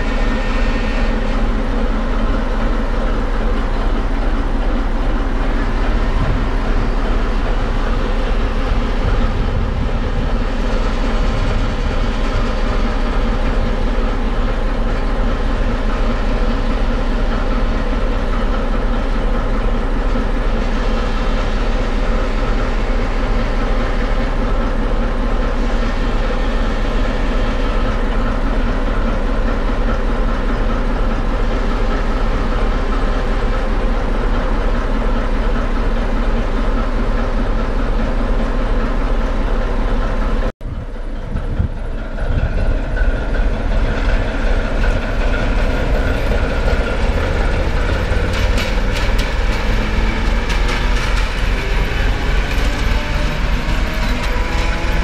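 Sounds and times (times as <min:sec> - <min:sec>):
diesel locomotive engine humming: 0:00.0 - 0:55.0
locomotive moving: 0:00.0 - 0:55.0.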